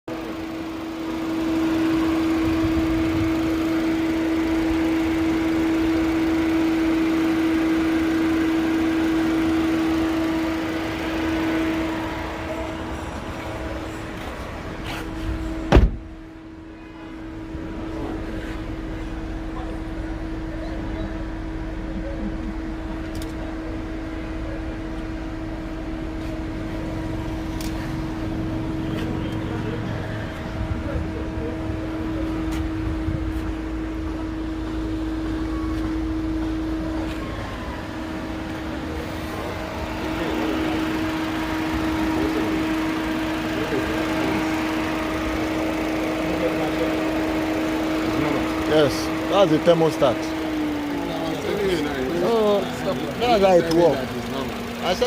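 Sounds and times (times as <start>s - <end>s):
motor or fan humming: 0.1s - 14.8s, 25.4s - 55.0s.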